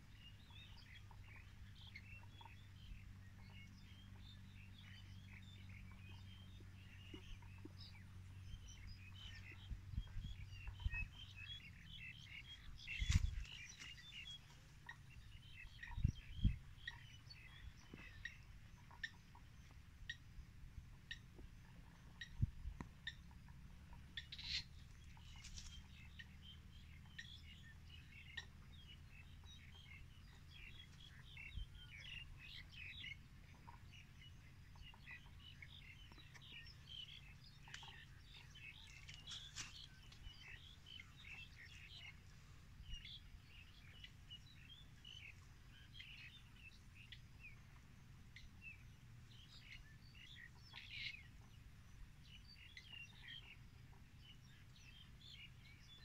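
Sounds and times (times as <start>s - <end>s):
low steady hum: 0.0s - 56.0s
small birds chirping: 0.0s - 56.0s.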